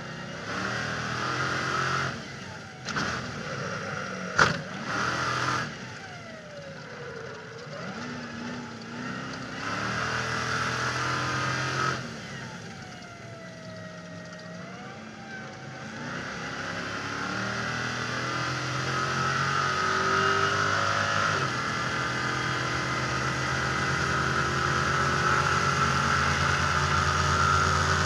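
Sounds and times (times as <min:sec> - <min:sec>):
truck engine accelerating: 0:00.0 - 0:28.0.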